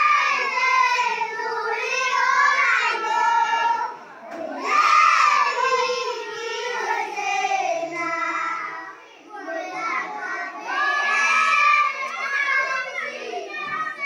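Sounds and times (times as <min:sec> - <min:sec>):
children singing in unison: 0:00.0 - 0:14.0.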